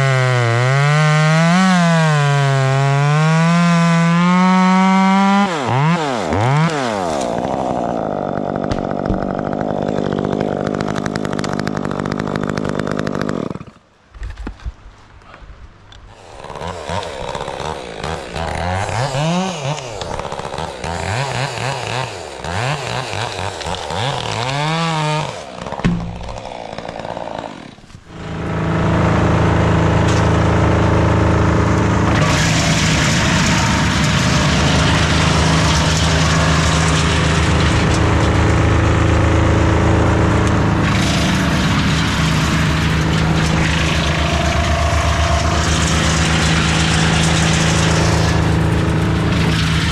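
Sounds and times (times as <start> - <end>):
chainsaw revving: 0.0 - 13.8, 16.1 - 49.9.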